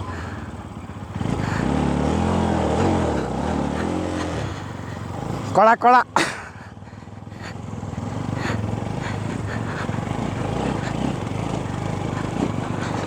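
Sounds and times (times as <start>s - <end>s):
motorcycle engine labouring: 0.0s - 13.0s.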